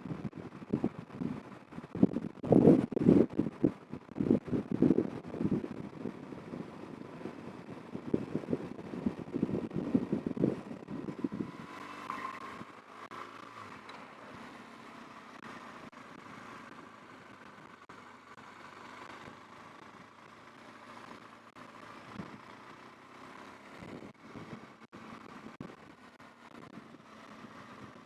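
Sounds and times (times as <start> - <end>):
motorcycle engine running: 0.0 - 28.0
wind rush of riding: 0.0 - 28.0.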